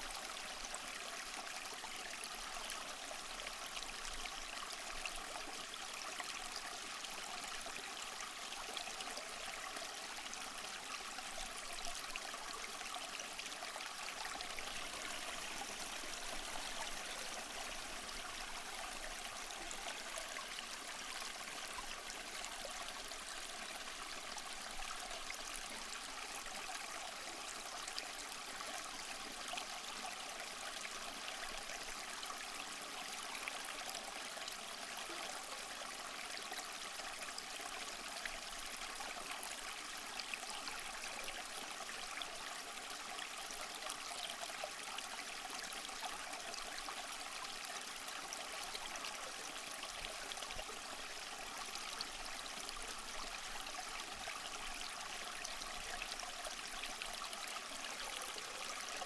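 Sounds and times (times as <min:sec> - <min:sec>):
small waterfall splashing: 0:11.0 - 0:59.0.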